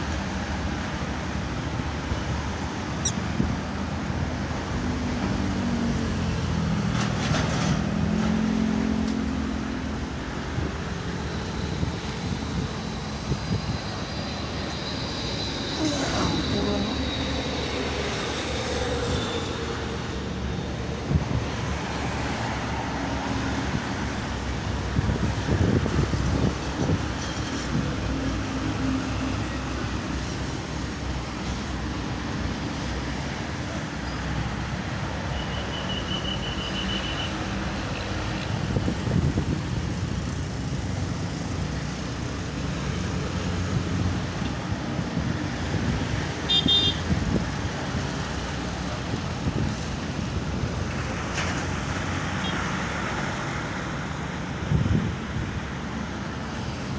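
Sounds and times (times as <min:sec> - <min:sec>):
road traffic rumble: 0:00.0 - 0:56.9.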